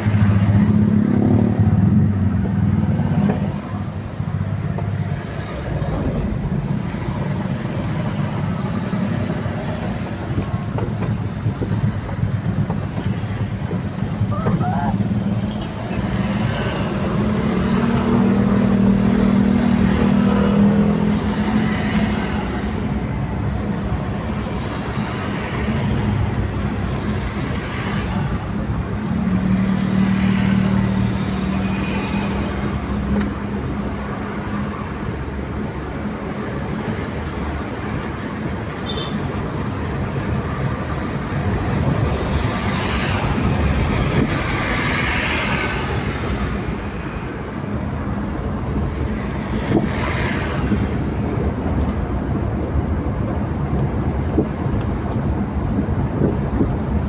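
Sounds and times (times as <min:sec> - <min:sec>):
highway traffic passing: 0:00.0 - 0:57.0.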